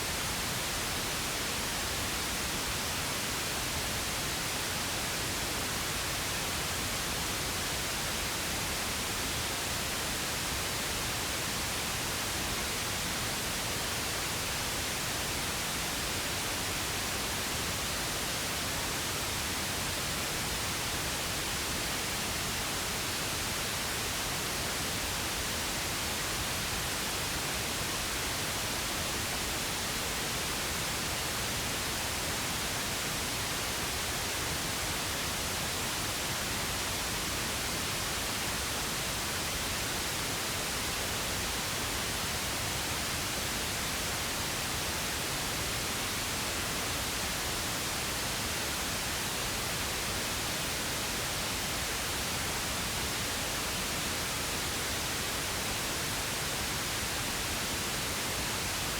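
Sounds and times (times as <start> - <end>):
pink noise hiss: 0.0 - 58.9.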